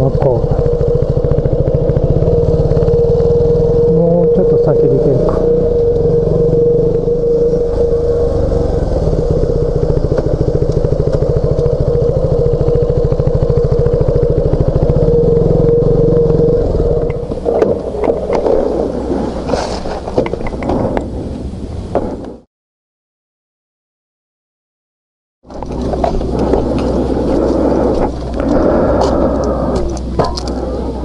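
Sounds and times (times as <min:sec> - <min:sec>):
motorcycle engine running: 0:00.0 - 0:20.5, 0:25.5 - 0:31.0.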